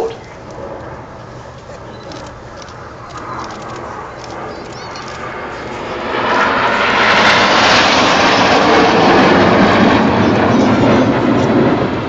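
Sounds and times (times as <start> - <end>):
jets roaring past: 0.0 - 12.0.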